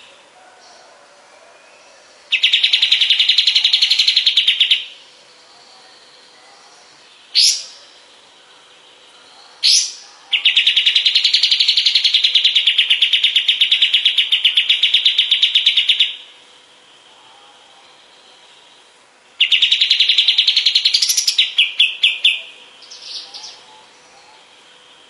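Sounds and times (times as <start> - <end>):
songbird chirping and trilling: 0.0 - 25.0.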